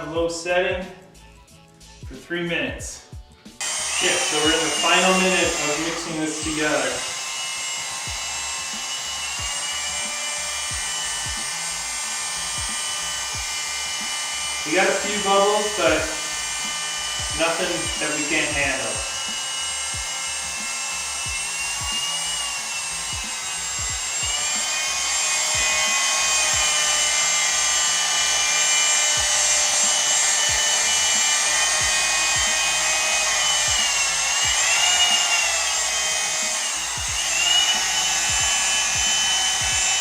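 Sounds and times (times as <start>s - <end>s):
electric drill motor whine: 3.6s - 40.0s.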